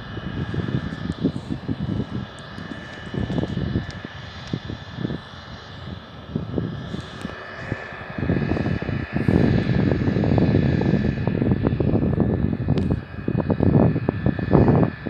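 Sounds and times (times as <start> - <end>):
aircraft engine whine and rumble: 0.0 - 15.0.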